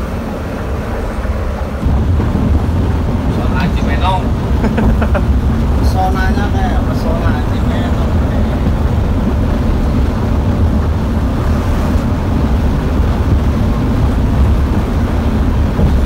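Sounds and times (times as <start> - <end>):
engine and road noise rumble: 0.0 - 16.0.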